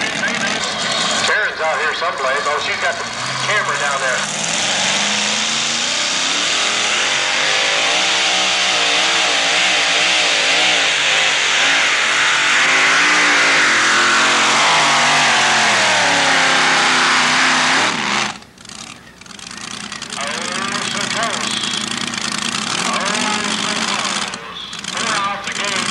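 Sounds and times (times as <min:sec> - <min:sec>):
truck engine at full throttle: 0:00.0 - 0:25.9.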